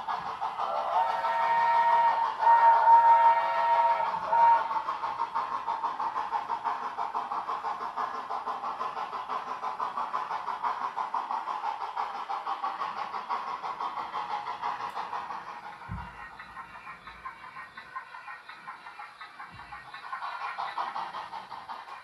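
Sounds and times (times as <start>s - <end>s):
model steam locomotive chuffs: 0.0s - 22.0s.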